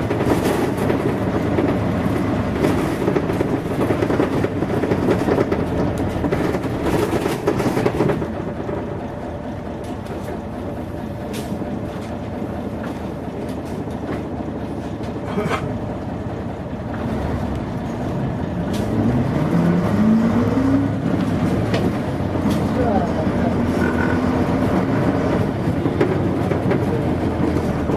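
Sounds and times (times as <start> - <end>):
bus diesel engine: 0.0 - 27.9.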